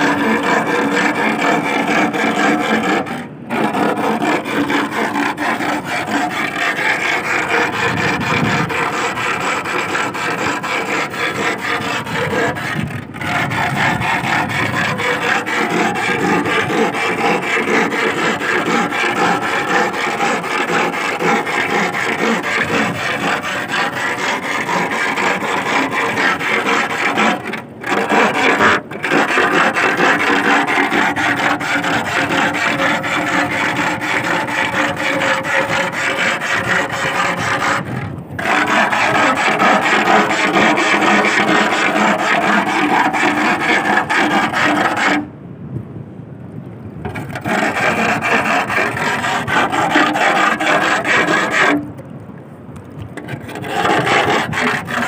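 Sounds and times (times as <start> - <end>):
iron bar grinding in sand: 0.0 - 45.3, 47.0 - 52.0, 53.2 - 55.0.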